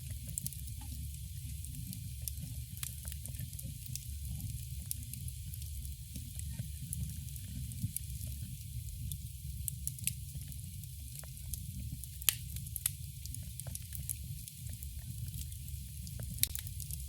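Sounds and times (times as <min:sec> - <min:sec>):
burning wood crackling and popping: 0:00.0 - 0:17.0
low rumble of flames: 0:00.0 - 0:17.0.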